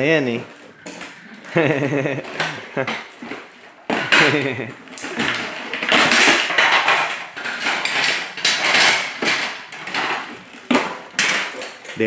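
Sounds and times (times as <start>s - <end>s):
plastic toy pieces clattering: 0.0s - 12.0s.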